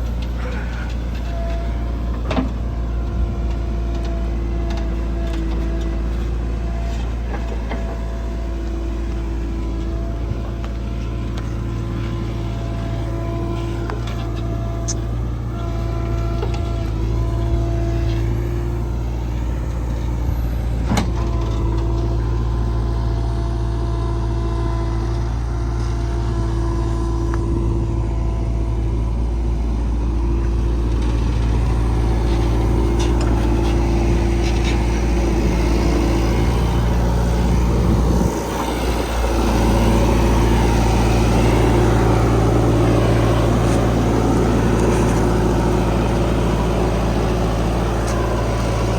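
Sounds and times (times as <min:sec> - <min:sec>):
heavy diesel machinery engine: 0:00.0 - 0:48.9.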